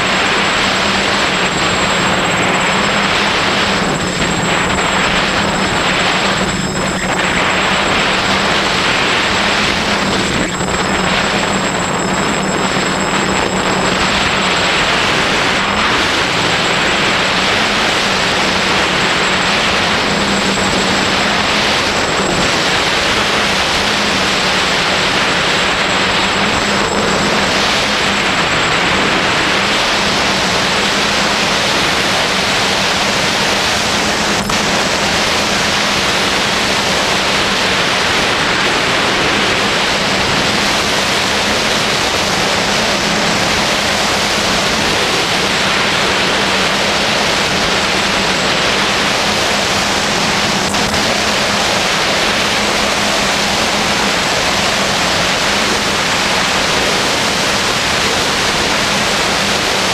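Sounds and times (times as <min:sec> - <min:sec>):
low steady motor hum: 0:00.0 - 0:59.9
rotor wash and wind hiss: 0:00.0 - 0:59.9.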